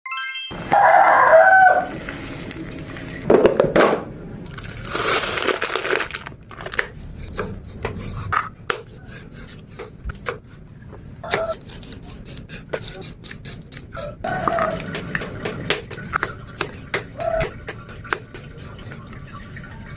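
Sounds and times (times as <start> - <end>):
rustling and crunching vegetables: 0.7 - 17.6.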